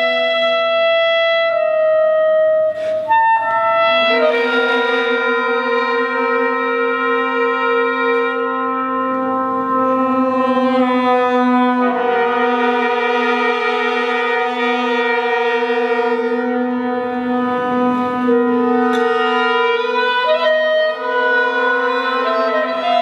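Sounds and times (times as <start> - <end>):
clarinet trumpet and trombone chord: 0.0 - 23.0.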